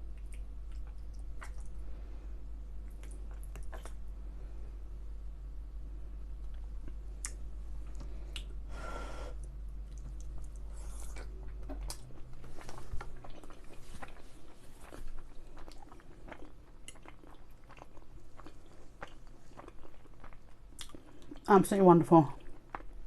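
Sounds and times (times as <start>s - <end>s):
person chewing food: 0.0s - 2.2s, 2.8s - 4.1s, 6.4s - 8.6s, 9.3s - 21.5s, 22.4s - 23.0s.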